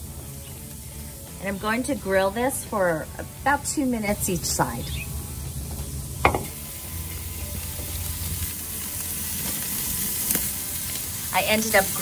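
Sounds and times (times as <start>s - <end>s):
steak sizzling on grill: 0.0s - 12.0s.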